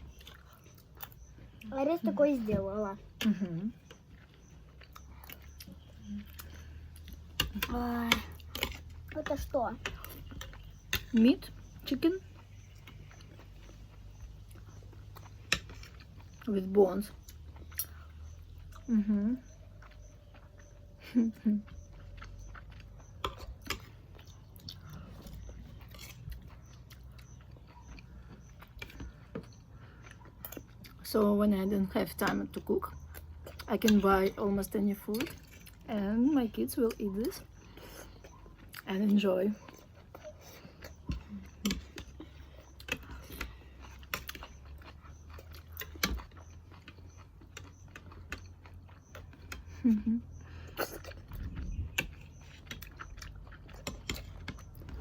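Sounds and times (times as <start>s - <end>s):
person chewing: 0.0s - 1.7s, 3.0s - 31.0s, 32.5s - 36.0s, 36.9s - 55.0s
low steady hum: 0.0s - 55.0s.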